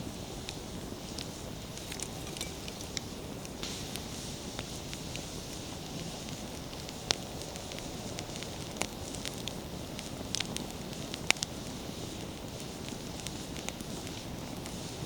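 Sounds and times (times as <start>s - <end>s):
bonfire flames rushing: 0.0s - 15.0s
firewood crackling and popping: 0.0s - 15.0s.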